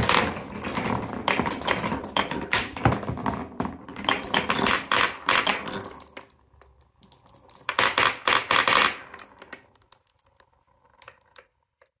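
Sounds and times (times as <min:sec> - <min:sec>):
glass marbles clacking on wood: 0:00.0 - 0:12.0.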